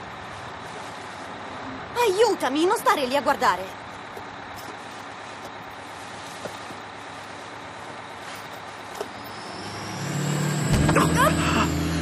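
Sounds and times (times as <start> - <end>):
moving bus interior noise: 0.0 - 12.0.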